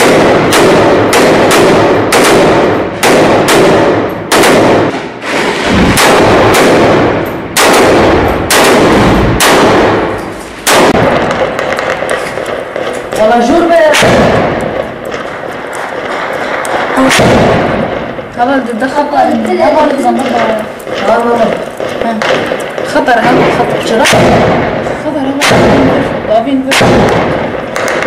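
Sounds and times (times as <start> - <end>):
rifle shots echoing indoors: 0.0 - 19.4, 20.1 - 28.0.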